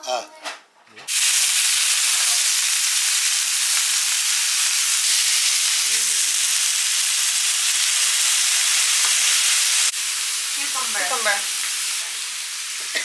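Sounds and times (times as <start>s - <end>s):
food sizzling in a hot pan: 1.1s - 13.0s.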